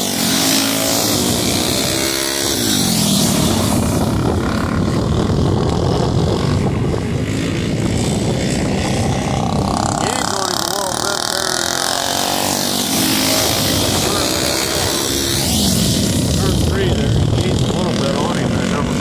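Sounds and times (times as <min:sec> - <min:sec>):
racing lawnmower engines: 0:00.0 - 0:19.0.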